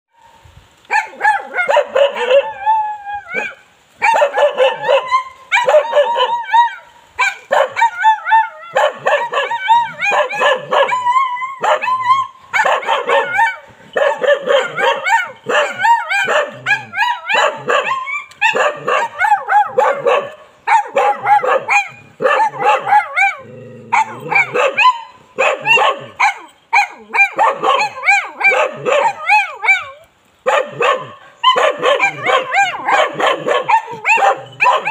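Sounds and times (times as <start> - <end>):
dogs barking: 0.9 - 2.6, 3.4 - 6.5, 7.2 - 34.9.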